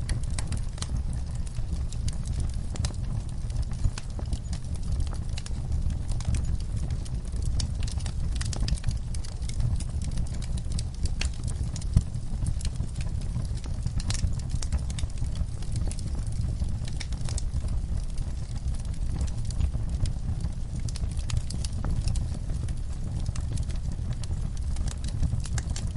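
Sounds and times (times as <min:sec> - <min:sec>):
low steady rumble: 0:00.0 - 0:25.9
wood fire crackling and popping: 0:00.0 - 0:25.9.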